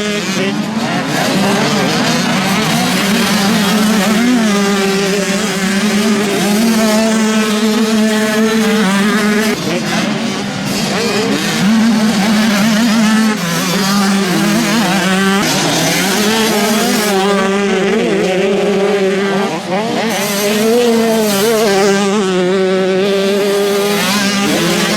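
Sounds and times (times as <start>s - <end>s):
motocross engines revving: 0.0s - 24.9s.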